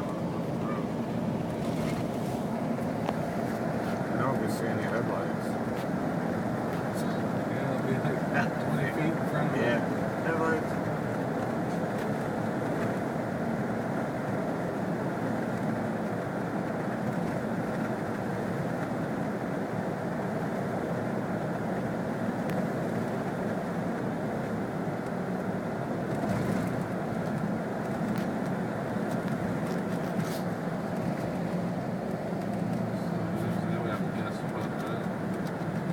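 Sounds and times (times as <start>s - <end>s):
road noise in snow: 0.0s - 35.9s
vehicle engine driving: 0.0s - 35.9s.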